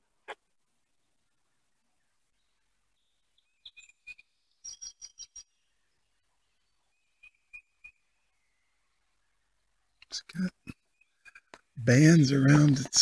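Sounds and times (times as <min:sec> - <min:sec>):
faint bird chirps: 0:00.2 - 0:12.7.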